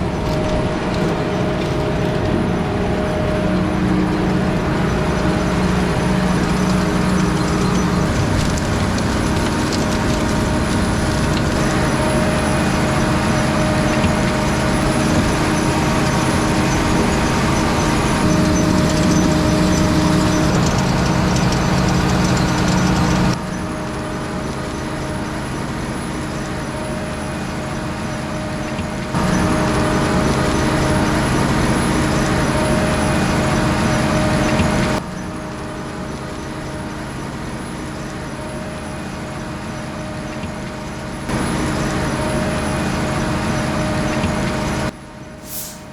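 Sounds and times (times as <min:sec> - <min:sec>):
potato harvester and tractors working: 0:00.0 - 0:45.9.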